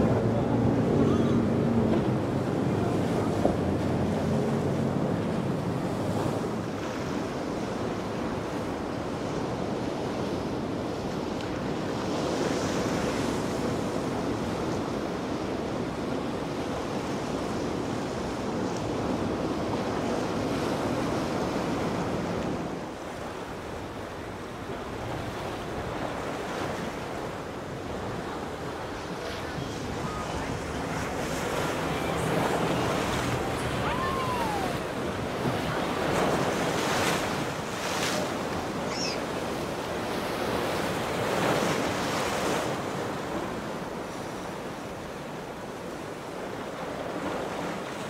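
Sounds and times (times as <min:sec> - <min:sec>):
waves breaking and churning: 0:00.0 - 0:48.0.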